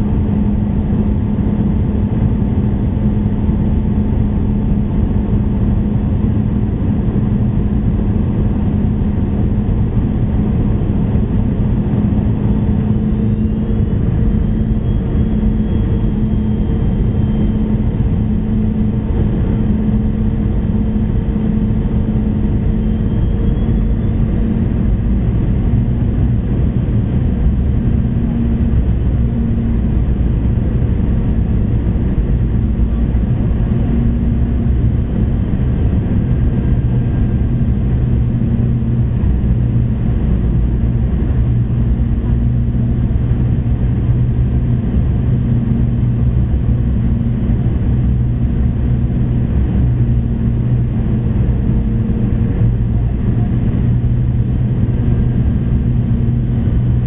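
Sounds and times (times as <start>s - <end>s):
constant low hum: 0.0s - 57.0s
jet engine drone: 0.0s - 57.0s.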